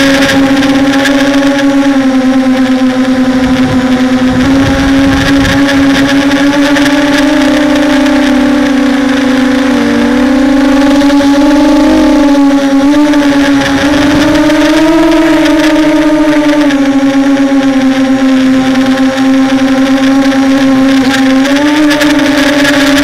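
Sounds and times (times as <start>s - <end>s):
drone propellers humming: 0.0s - 23.0s
wind buffeting microphone: 0.0s - 23.0s.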